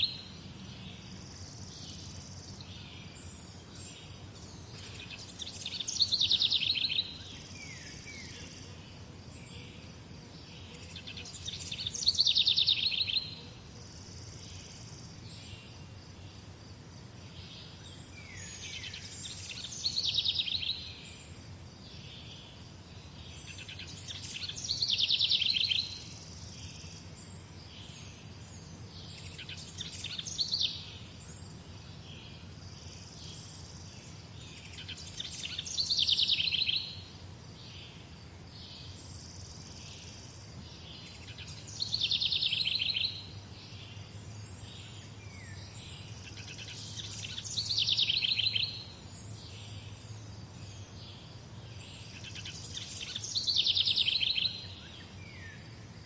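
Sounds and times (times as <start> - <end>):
songbird high trilling song: 0.0 - 9.8, 10.4 - 16.0, 17.4 - 55.7.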